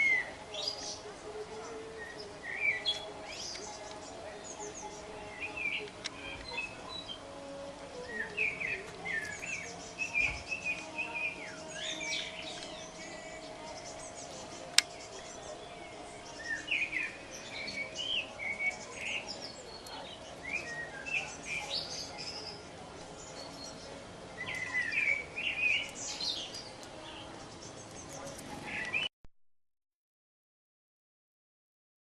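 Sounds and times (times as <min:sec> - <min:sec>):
small birds chirping: 0:00.0 - 0:29.1.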